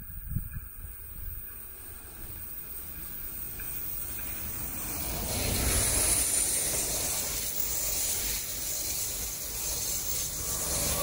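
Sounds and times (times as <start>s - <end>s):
high whine gliding down: 0.0s - 11.0s
train passing at speed: 0.0s - 11.0s.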